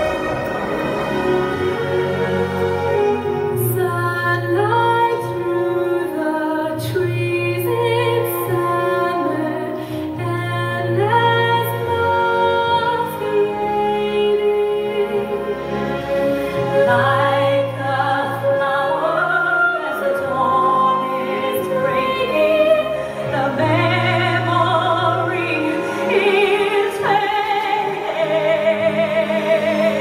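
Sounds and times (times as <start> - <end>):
low instrumental accompaniment: 0.0 - 30.0
operatic singing: 0.0 - 30.0.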